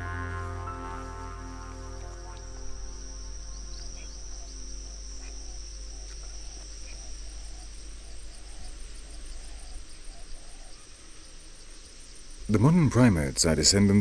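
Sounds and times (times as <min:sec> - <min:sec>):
high-pitched insect chorus: 0:00.0 - 0:14.0
soft pulsing insect call: 0:00.0 - 0:14.0
sustained music pad: 0:00.0 - 0:14.0.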